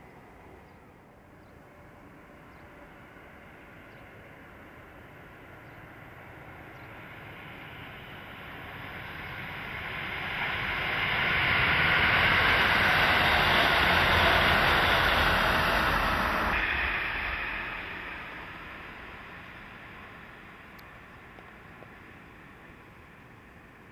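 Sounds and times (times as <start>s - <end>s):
diesel train passing: 0.0s - 23.9s
distant train: 0.0s - 23.9s.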